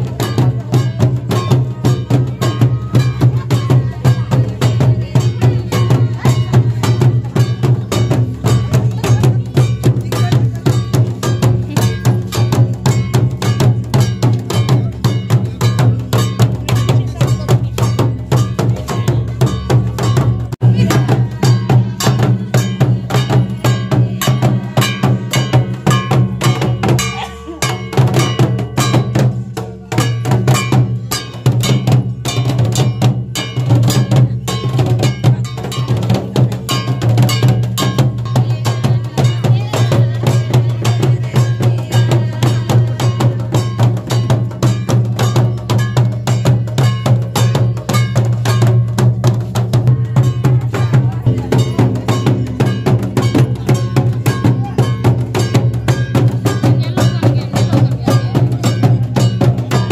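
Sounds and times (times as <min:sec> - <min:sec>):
drums: 0:00.0 - 0:59.9
metallic clanking beat: 0:00.0 - 0:59.9.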